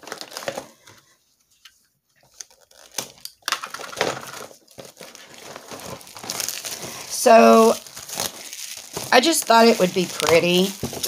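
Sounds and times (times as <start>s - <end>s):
shrink-wrap crinkling and tearing: 0.0s - 1.1s, 2.2s - 11.0s.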